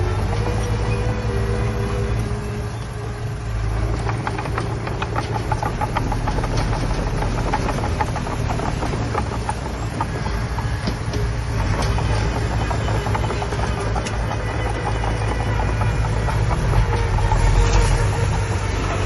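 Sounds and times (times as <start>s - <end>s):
heavy diesel machinery droning: 0.0s - 19.0s
rapid clanking and rattling: 0.0s - 19.0s.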